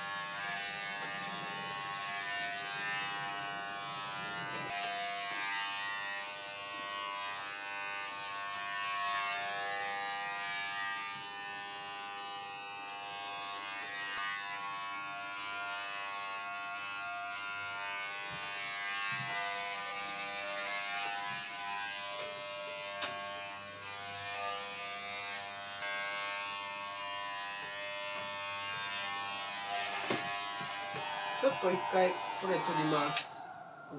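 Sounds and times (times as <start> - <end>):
electric clipper buzzing: 0.0 - 33.4.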